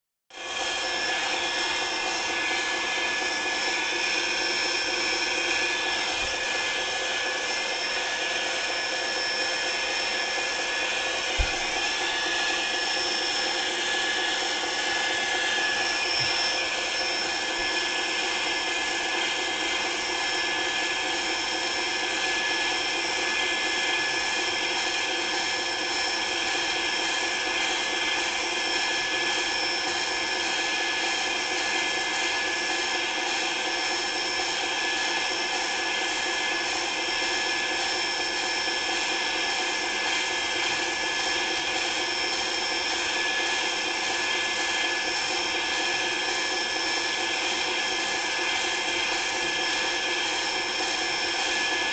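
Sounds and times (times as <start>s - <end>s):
machine humming and whining: 0.4s - 51.9s.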